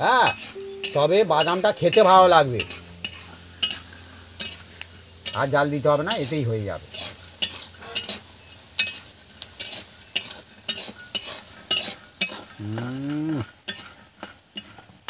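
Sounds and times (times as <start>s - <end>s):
metal spatula scraping a pan: 0.2s - 12.6s, 13.6s - 15.0s.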